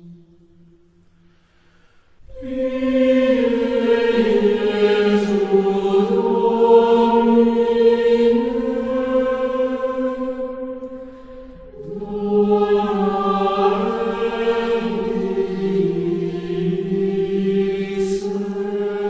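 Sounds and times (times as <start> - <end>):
slow sustained vocal chanting: 0.0 - 19.0.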